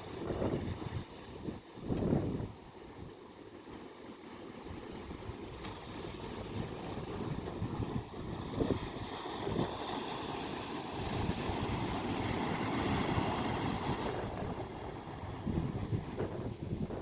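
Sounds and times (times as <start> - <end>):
wind buffeting microphone: 0.0 - 3.2, 4.6 - 17.0
sea waves washing onto shore: 0.0 - 17.0.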